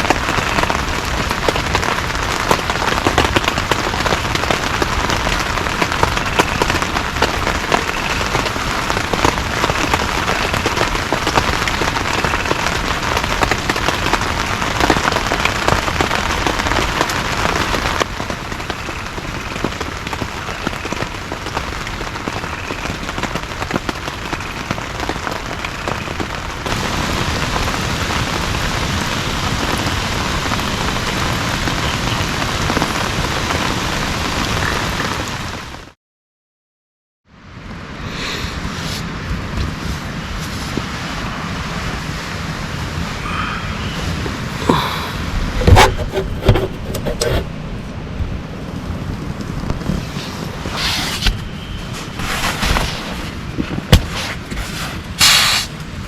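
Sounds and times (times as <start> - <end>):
heavy rain pattering on surface: 0.0 - 36.0, 37.6 - 56.0.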